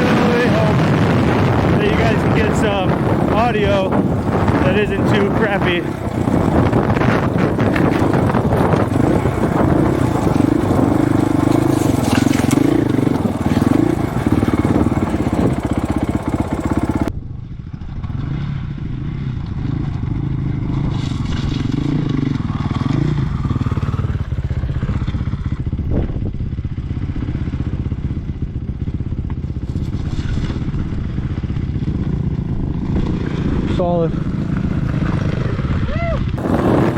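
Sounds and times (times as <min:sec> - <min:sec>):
dirt bike engine revving: 0:00.0 - 0:17.1, 0:18.1 - 0:26.0, 0:28.9 - 0:36.9
wind noise on microphone: 0:00.0 - 0:36.9.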